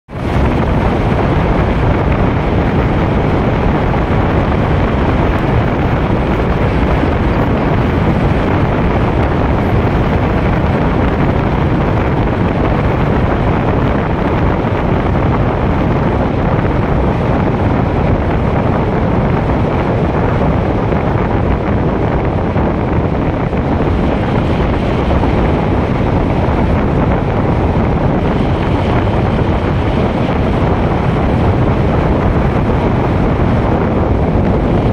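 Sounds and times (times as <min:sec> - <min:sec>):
air rushing past car window: 0:00.1 - 0:34.9.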